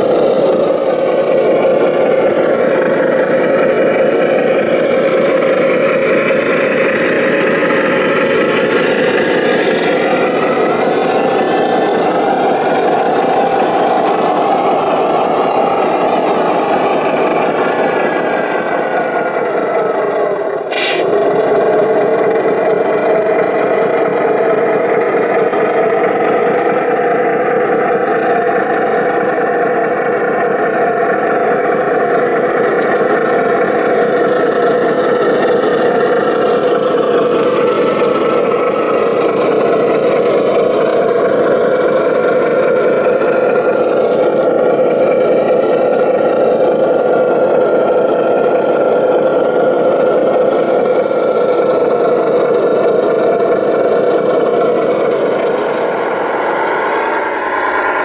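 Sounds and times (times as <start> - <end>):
toy vehicle motor drone: 0.0 - 58.0.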